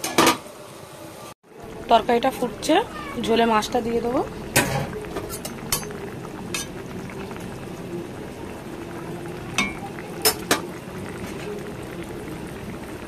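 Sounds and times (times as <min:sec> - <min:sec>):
gravy bubbling in pan: 0:01.4 - 0:13.0.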